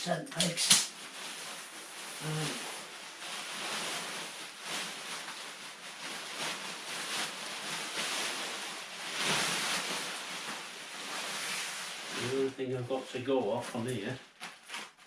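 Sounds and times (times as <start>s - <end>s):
tent fabric rustling: 0.9s - 13.0s, 13.6s - 15.0s.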